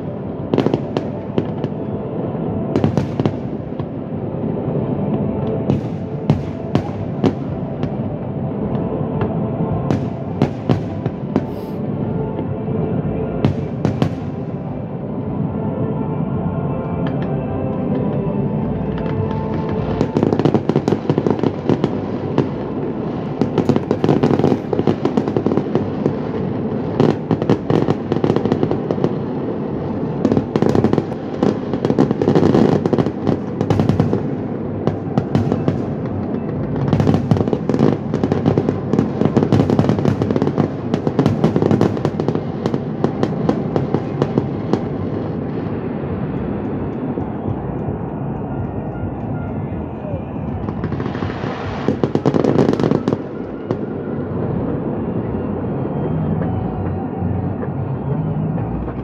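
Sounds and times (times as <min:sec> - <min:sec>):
fireworks bangs and crackling: 0:00.0 - 0:15.5, 0:17.0 - 0:59.0.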